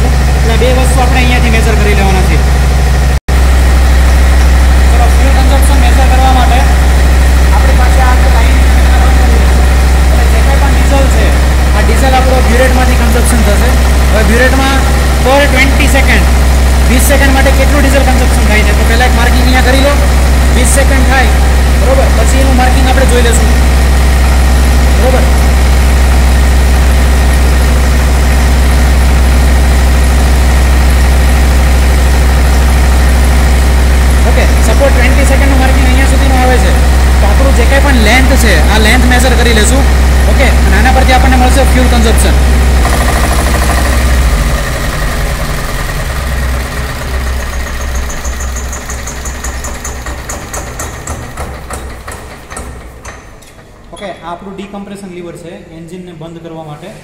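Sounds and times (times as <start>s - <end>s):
diesel engine droning: 0.0s - 52.5s.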